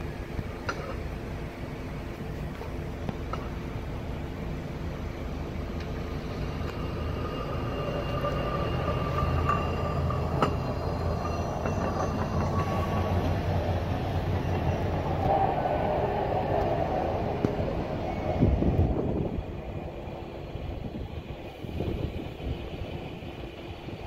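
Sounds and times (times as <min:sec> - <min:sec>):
thin steady whine: 0:00.0 - 0:24.0
truck engine and wheels on rail: 0:00.0 - 0:24.0.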